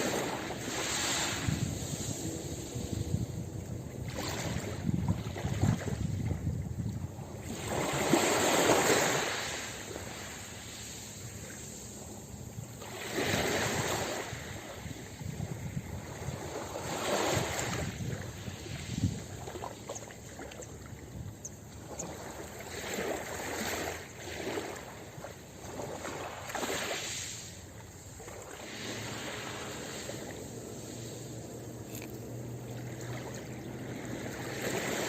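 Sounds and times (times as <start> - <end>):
ocean waves breaking: 0.0 - 35.0
wind rumble on microphone: 0.0 - 35.0.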